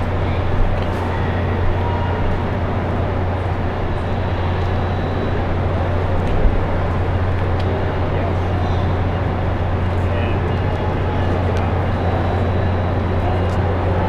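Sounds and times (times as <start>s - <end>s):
traffic noise rush: 0.0s - 14.0s.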